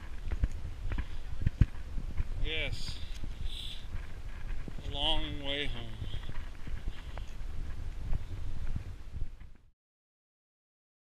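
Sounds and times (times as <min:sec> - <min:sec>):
footsteps on gravel: 0:00.0 - 0:08.9
wind rumble on microphone: 0:00.0 - 0:09.7.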